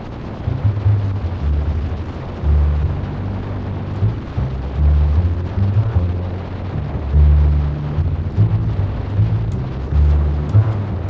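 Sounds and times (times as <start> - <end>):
motorcycle engine rumble: 0.0 - 11.0
wind noise on microphone: 0.0 - 11.0.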